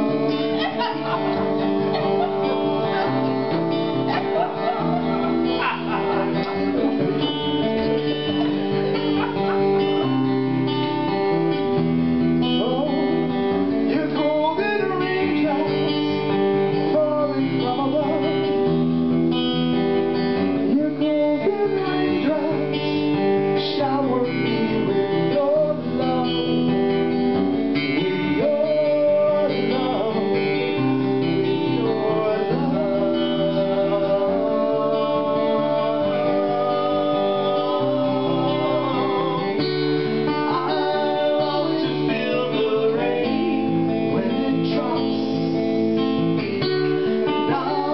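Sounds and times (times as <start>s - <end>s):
person singing: 0.0s - 11.3s, 12.4s - 18.7s, 20.7s - 23.0s, 27.8s - 47.9s
acoustic guitar strumming: 0.0s - 47.9s.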